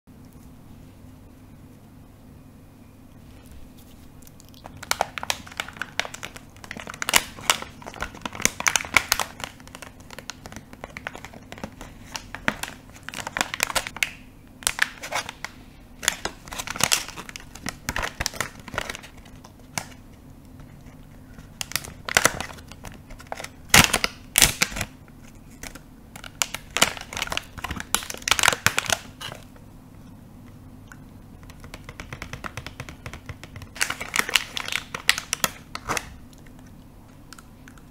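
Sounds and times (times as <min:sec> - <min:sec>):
plastic packaging crinkling: 0:03.8 - 0:29.5, 0:31.5 - 0:36.3.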